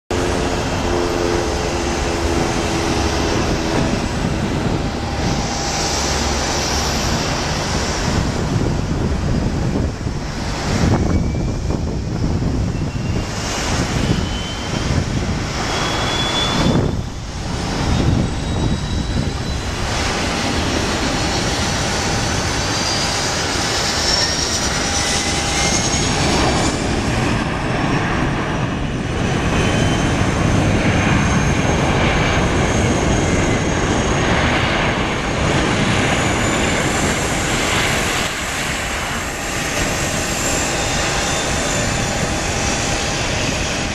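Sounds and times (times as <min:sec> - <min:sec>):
engine whines rising in pitch: 0:00.1 - 0:43.9
jet airliner landing rumble: 0:00.1 - 0:43.9.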